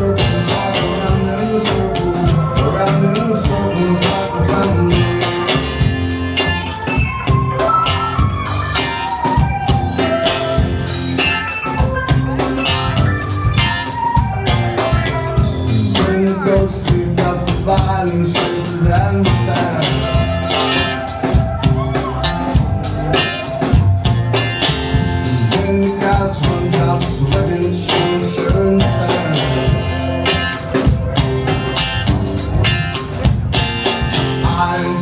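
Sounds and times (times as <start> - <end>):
live rock band playing: 0.0 - 35.0
steady drum beat: 0.0 - 35.0.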